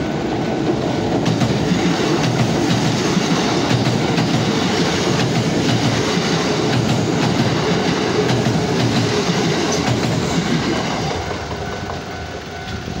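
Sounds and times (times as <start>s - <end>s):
train rumbling over steel bridge: 0.0s - 13.0s
wheels clacking over rail joints: 0.2s - 13.0s.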